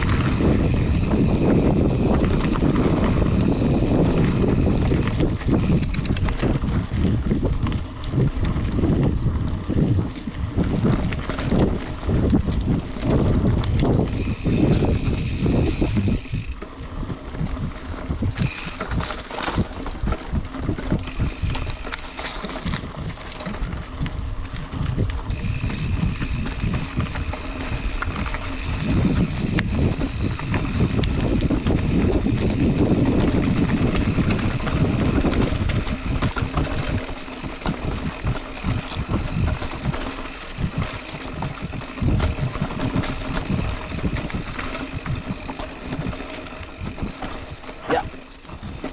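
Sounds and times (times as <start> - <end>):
bike rattles and knocks: 0.0 - 48.9.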